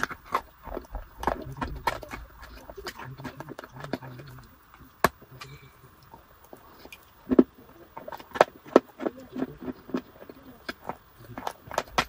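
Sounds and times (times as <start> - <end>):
crunching dry food: 0.0 - 12.0.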